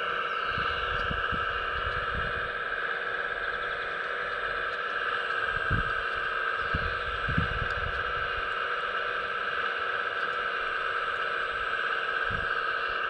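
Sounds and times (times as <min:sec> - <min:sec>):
electric hydraulic pump whine: 0:00.0 - 0:13.0.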